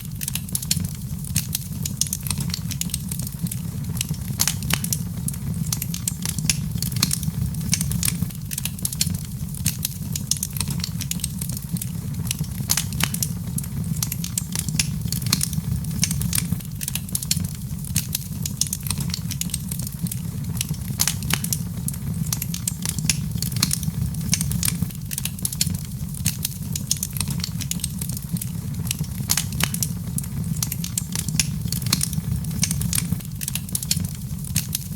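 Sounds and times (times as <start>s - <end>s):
low rumble of flames: 0.0s - 34.9s
wood fire crackling: 0.0s - 34.9s.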